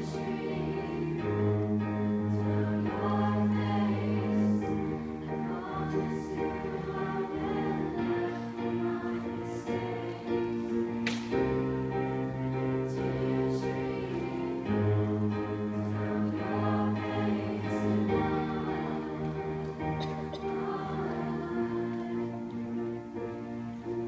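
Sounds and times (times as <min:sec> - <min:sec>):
cello: 0:00.0 - 0:24.0
digital piano: 0:00.0 - 0:24.0
youth choir singing in harmony: 0:00.0 - 0:24.0.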